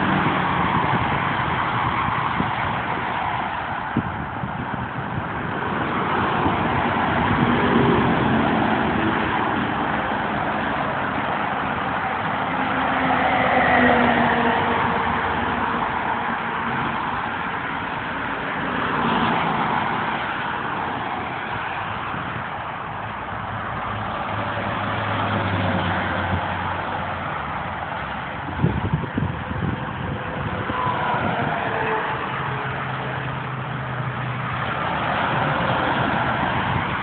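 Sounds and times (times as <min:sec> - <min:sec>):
freeway traffic passing: 0:00.0 - 0:37.0.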